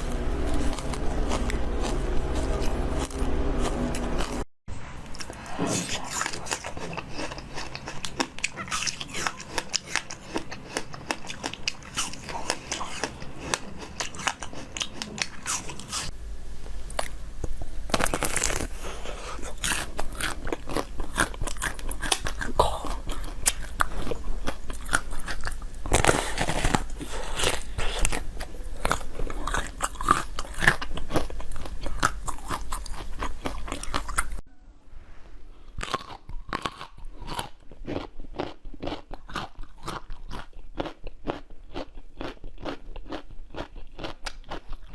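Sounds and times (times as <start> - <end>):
person chewing crunchy food: 0.0 - 16.2, 16.8 - 34.4, 35.6 - 44.9.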